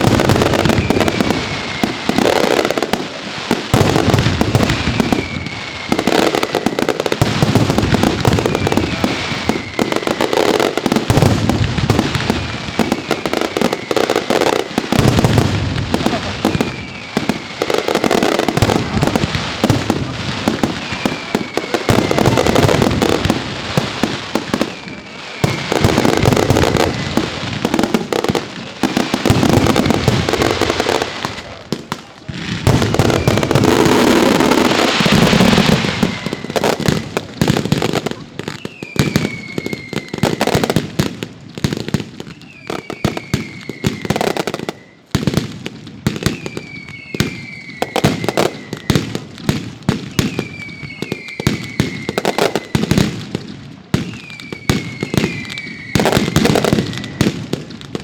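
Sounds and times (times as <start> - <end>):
firework whistles falling in pitch: 0.0 - 31.6, 32.3 - 45.4, 46.0 - 58.0
firework bursts and crackling: 0.0 - 58.0.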